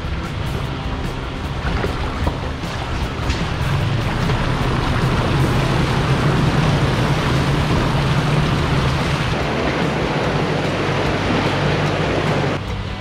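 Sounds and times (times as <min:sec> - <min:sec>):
low engine drone: 0:00.0 - 0:13.0
tyre and wind noise: 0:00.0 - 0:13.0.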